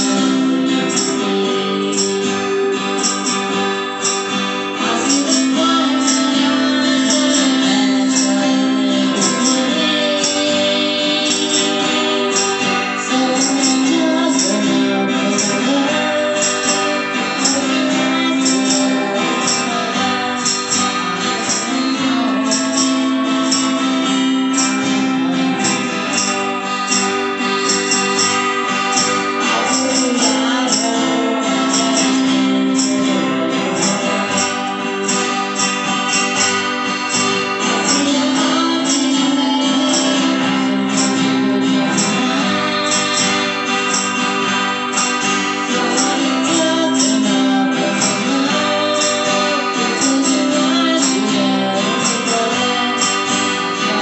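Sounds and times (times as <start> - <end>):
woman singing: 0.0 - 36.6, 37.2 - 54.0
guitars strummed and picked: 0.0 - 54.0
light percussion beat: 0.0 - 54.0.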